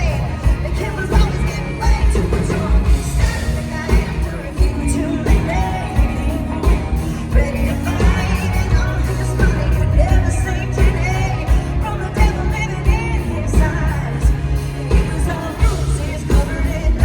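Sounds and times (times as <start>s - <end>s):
country-pop band playing: 0.0s - 17.0s
steady drum beat: 0.0s - 17.0s
woman singing: 0.0s - 17.0s.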